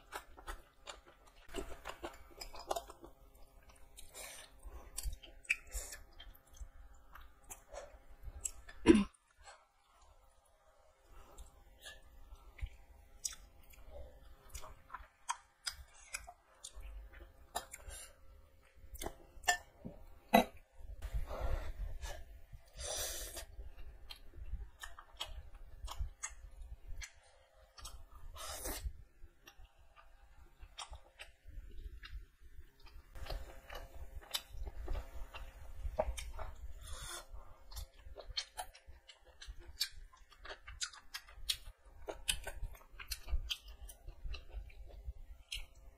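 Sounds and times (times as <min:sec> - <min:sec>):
chewing food: 0:00.0 - 0:20.0, 0:22.5 - 0:45.9.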